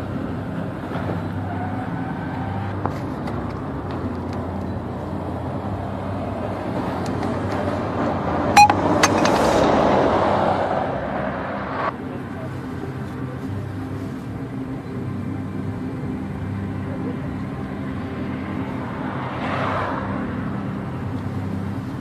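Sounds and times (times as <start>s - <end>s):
vehicle engine running: 0.0s - 9.7s, 10.9s - 22.0s.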